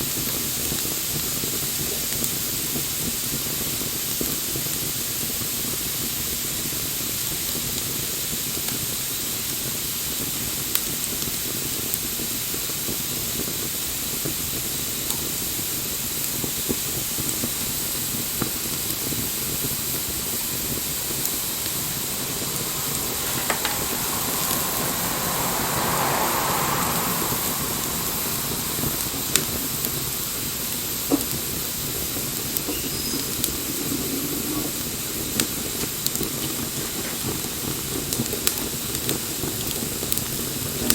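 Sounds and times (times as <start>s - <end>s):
bonfire hissing and crackling: 0.0s - 40.9s.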